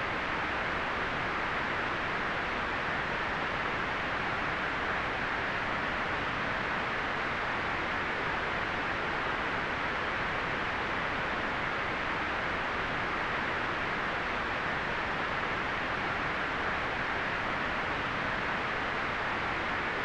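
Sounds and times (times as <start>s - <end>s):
steady white noise hiss: 0.0s - 20.0s.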